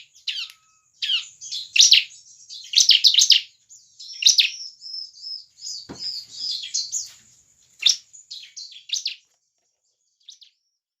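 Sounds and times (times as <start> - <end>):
bird singing rapid chattering song: 0.0 - 10.9.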